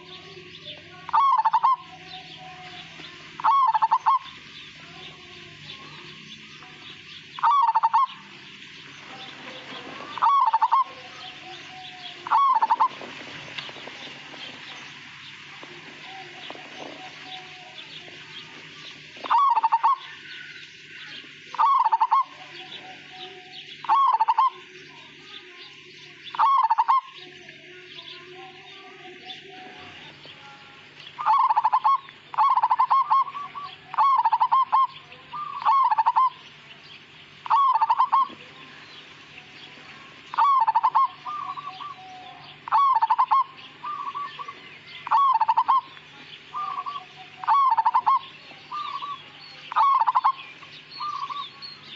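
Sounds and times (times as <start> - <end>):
dove cooing: 0.0 - 8.4, 9.0 - 25.3, 26.2 - 27.7, 31.2 - 36.4, 37.4 - 38.7, 39.8 - 51.9.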